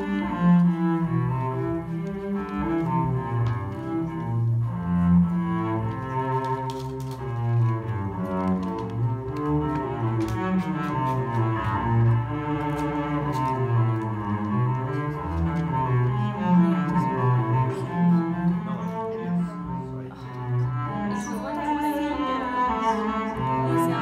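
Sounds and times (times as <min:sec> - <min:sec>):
bowed cello music: 0:00.0 - 0:24.0.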